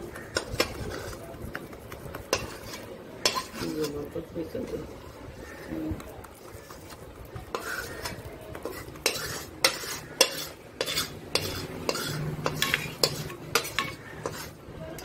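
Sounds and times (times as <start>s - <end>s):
metal spatula scraping metal pan: 0.0s - 1.2s, 2.2s - 5.7s, 6.4s - 15.0s.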